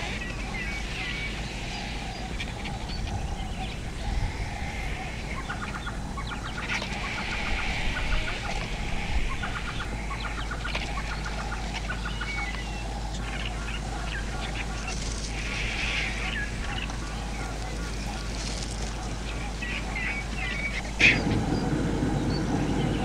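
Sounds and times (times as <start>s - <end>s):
birds clucking chatter: 0.0s - 23.0s.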